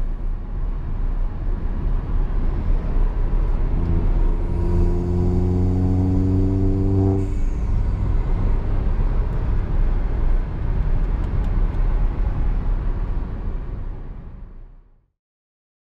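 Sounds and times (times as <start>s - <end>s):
car engine drone: 0.0s - 14.9s
road and tyre rumble: 0.0s - 15.0s.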